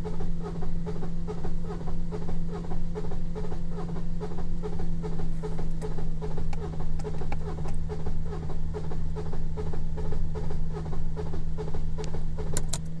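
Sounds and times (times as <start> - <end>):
diesel engine cranking without firing: 0.0 - 13.0.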